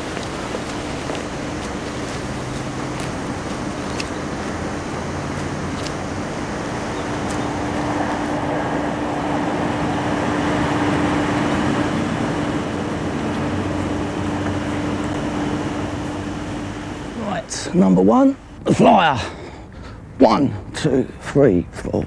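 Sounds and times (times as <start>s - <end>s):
distant passenger train passing: 0.0s - 19.3s.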